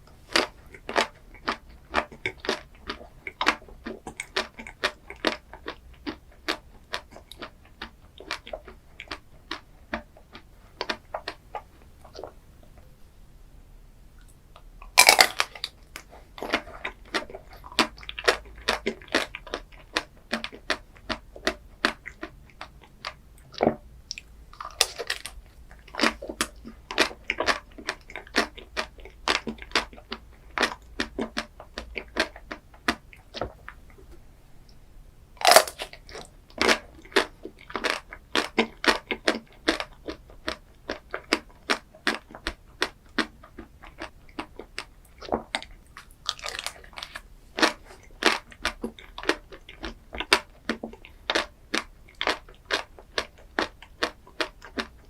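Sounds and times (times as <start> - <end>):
person biting and chewing: 0.2 - 12.4, 14.6 - 33.6, 35.4 - 55.0.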